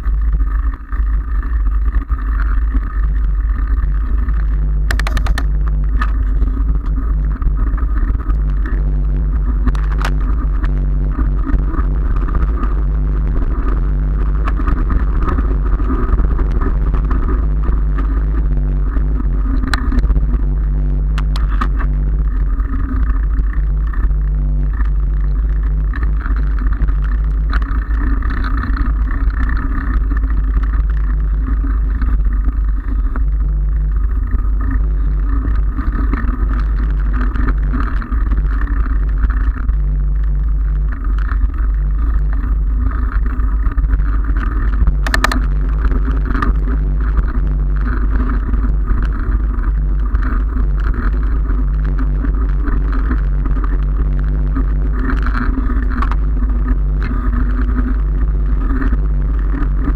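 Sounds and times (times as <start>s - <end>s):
bike tyre hum on paving: 0.0s - 59.9s
wind rumbling on microphone: 0.0s - 59.9s.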